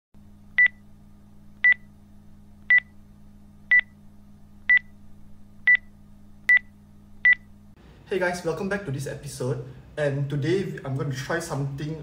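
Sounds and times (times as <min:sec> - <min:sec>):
faint low hum: 0:00.2 - 0:12.0.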